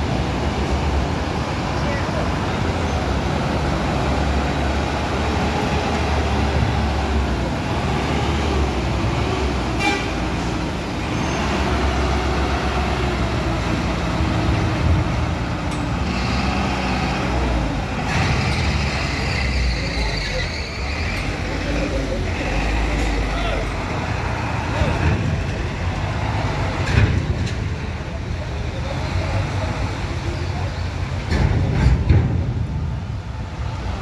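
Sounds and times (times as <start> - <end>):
truck diesel engines rumbling: 0.0 - 34.0.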